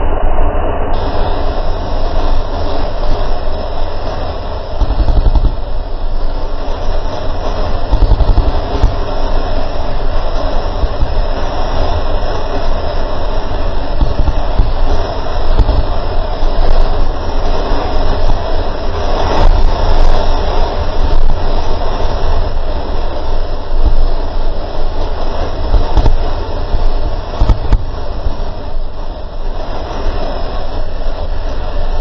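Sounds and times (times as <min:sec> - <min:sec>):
boat rumble with low buffeting: 0:00.0 - 0:32.0.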